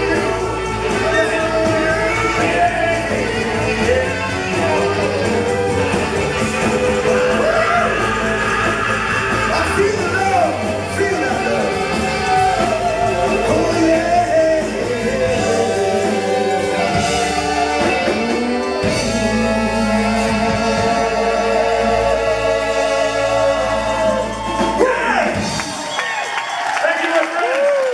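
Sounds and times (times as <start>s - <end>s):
people singing: 0.0s - 25.6s
live rock band playing: 0.0s - 26.6s.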